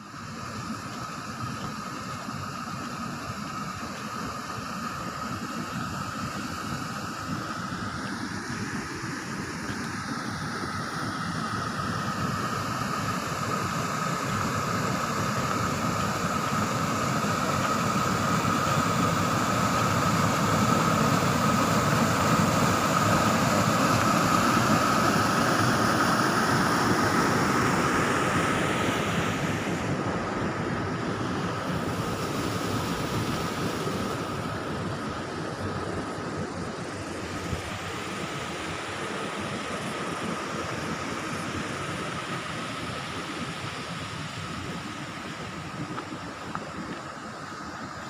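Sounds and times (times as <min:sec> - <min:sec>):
water rushing through sluice gate: 0:00.0 - 0:48.0.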